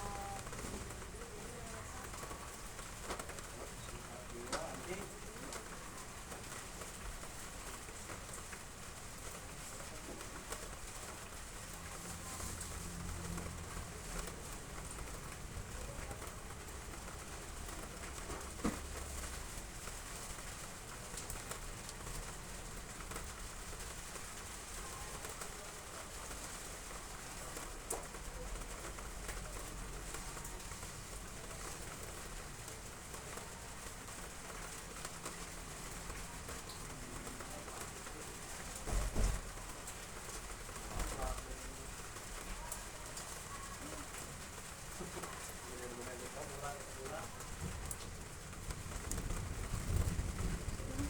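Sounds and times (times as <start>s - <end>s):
rain on roof tiles: 0.0s - 51.0s.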